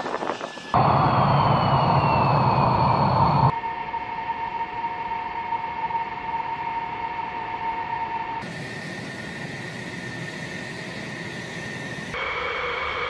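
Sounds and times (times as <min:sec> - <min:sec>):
jet engine whining: 0:00.0 - 0:13.0.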